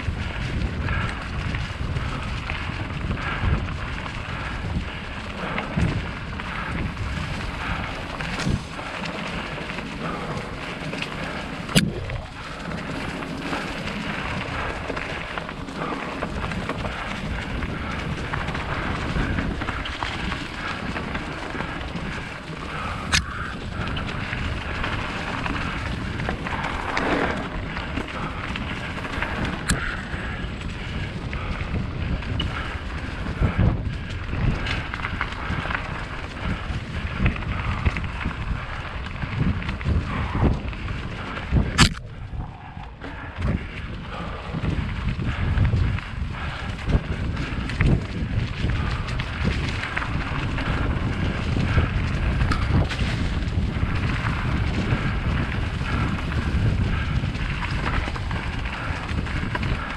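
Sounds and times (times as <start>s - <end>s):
tyres rolling over dirt: 0.0s - 59.9s
wind buffeting microphone: 0.0s - 59.9s
sharp clicks from bike: 0.1s - 42.3s, 43.0s - 59.9s.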